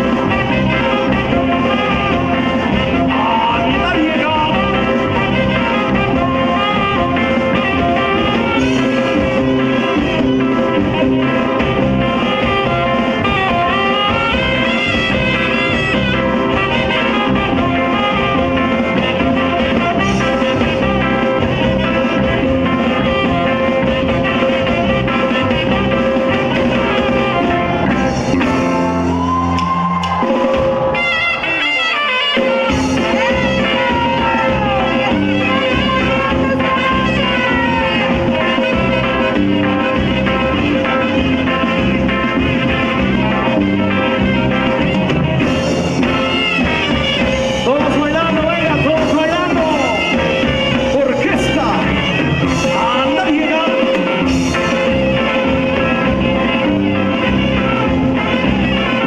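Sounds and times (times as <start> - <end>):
live band playing: 0.0 - 59.0
saxophones: 0.0 - 59.0.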